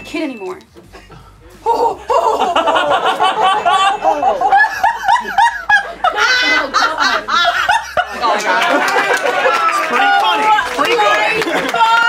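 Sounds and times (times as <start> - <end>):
people laughing: 0.9 - 12.0.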